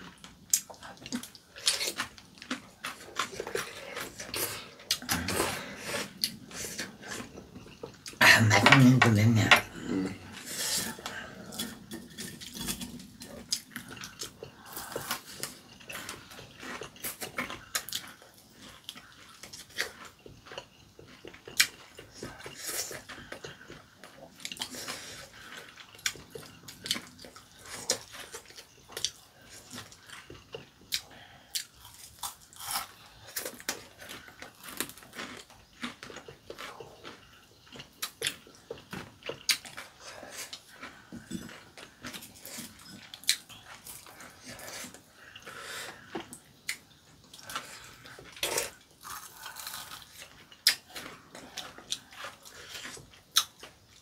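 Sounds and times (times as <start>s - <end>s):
crunchy chewing: 0.0s - 8.2s, 9.8s - 54.0s.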